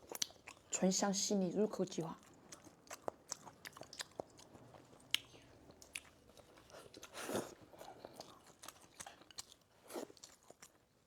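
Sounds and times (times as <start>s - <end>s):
person chewing: 0.0s - 0.7s, 2.2s - 10.8s.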